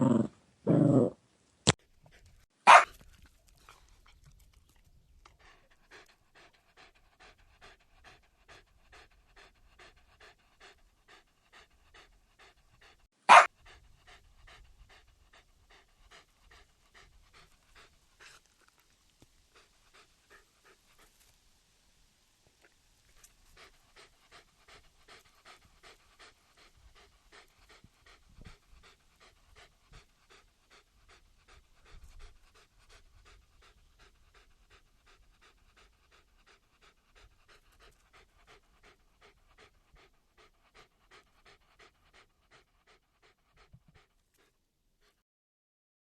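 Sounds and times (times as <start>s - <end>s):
puppy panting: 1.8s - 21.3s, 23.1s - 45.2s.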